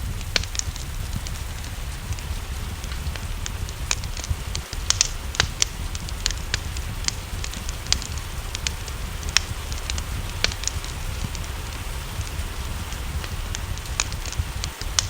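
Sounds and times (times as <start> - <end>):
low rumble: 0.0 - 15.0
rain hissing: 0.0 - 15.0
wood fire crackling and popping: 0.0 - 15.0.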